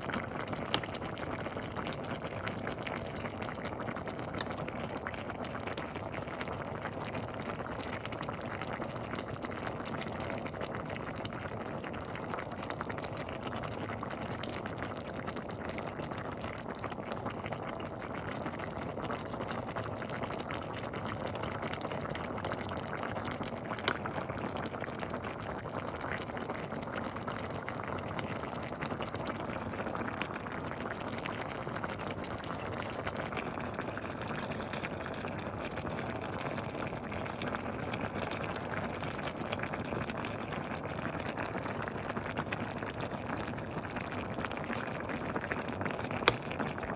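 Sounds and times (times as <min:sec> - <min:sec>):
soup bubbling at a boil: 0:00.0 - 0:46.9.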